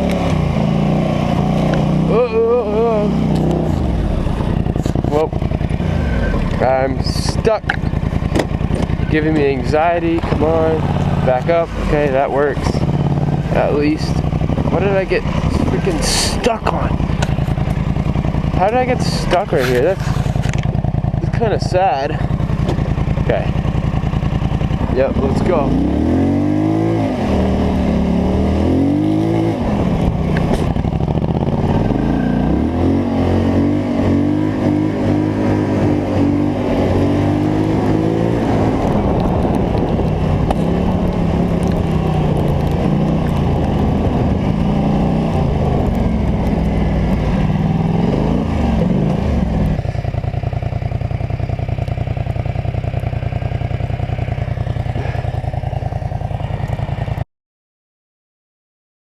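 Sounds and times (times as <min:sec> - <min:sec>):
atv engine revving and idling: 0:00.0 - 0:57.2.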